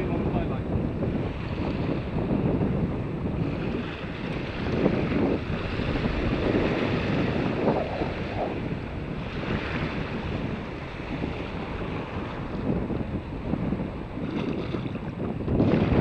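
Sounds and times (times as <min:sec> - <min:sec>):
small waves washing on beach: 0:00.0 - 0:16.0
wind buffeting microphone: 0:00.0 - 0:16.0.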